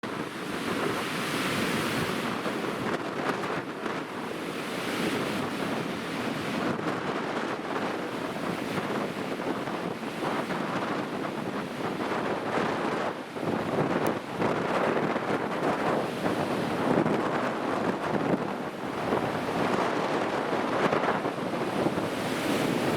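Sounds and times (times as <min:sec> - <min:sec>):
wind gusting across microphone: 0:00.0 - 0:22.9
storm surf crashing: 0:00.1 - 0:22.9.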